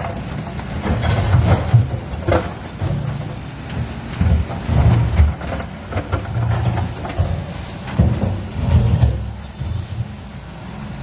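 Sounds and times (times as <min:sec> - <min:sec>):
steel bucket scraping rocks: 0:00.0 - 0:10.6
excavator engine running: 0:00.0 - 0:11.0.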